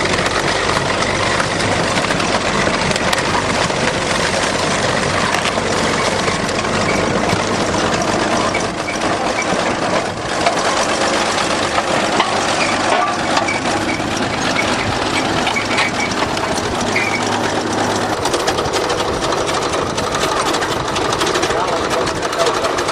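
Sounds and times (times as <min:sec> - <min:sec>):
bulldozer engine running: 0:00.0 - 0:22.9
knocks and clanks: 0:00.0 - 0:22.9.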